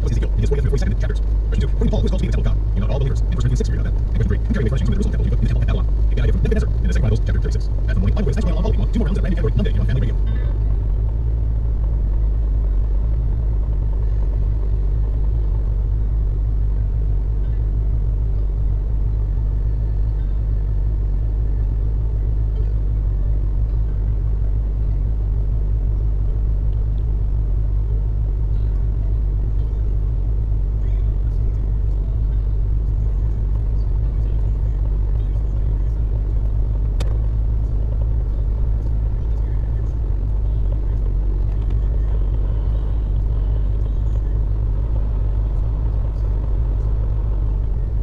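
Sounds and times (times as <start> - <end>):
car idling: 0.0 - 48.0.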